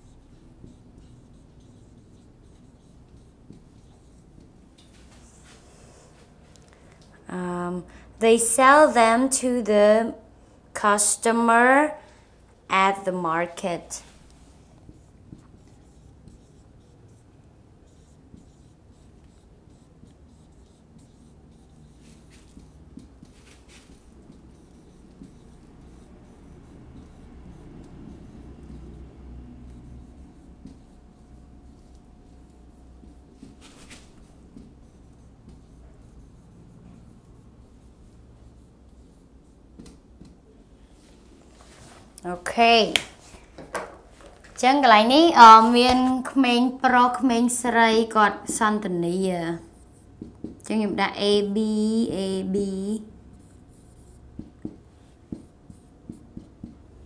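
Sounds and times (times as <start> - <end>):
marker writing on whiteboard: 0.0 - 6.6, 12.7 - 41.7, 42.4 - 57.0
low steady hum: 0.0 - 57.0.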